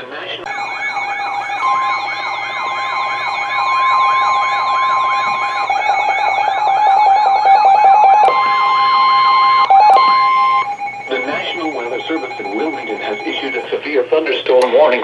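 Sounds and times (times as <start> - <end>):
steady alert tone: 0.5 - 13.8
siren-like warbling alarm: 0.5 - 13.9
rapid pulsing beep: 0.5 - 14.0.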